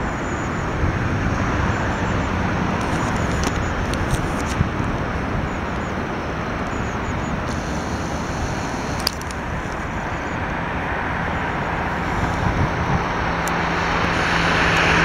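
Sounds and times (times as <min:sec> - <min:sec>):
jet engines at takeoff thrust: 0:00.0 - 0:15.0.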